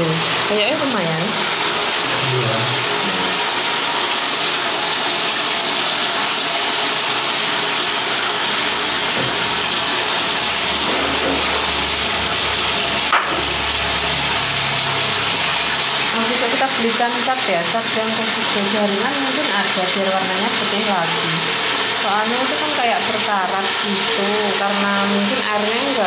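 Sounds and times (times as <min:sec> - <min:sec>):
running water rushing: 0:00.0 - 0:26.0.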